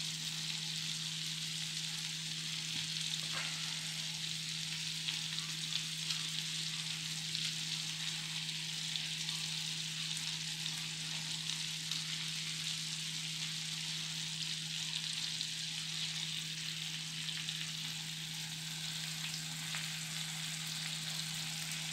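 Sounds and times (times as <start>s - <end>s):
gravy sizzling in a pan: 0.0s - 21.9s.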